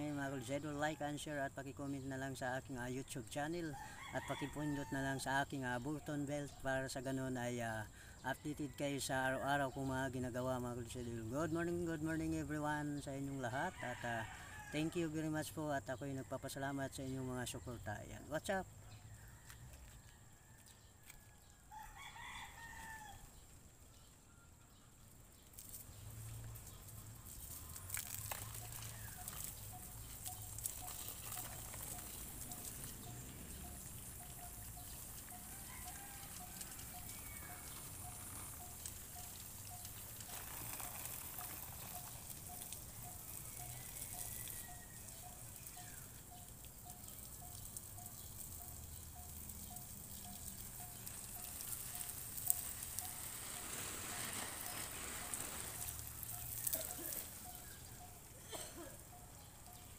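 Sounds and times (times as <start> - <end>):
garden hose spraying water: 0.0 - 59.9.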